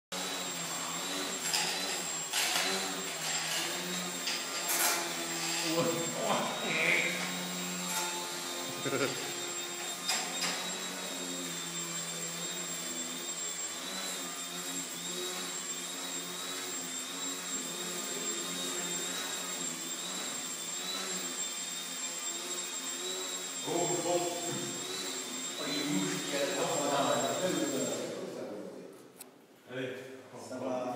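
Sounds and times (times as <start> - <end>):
model aeroplane motor whining: 0.2 - 28.4.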